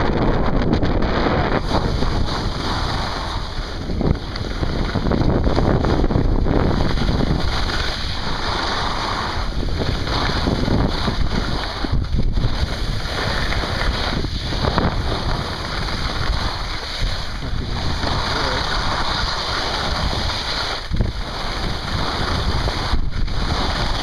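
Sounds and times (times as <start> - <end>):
wind rushing over microphone: 0.0 - 24.0
skis hissing on snow: 1.5 - 3.9, 6.6 - 24.0.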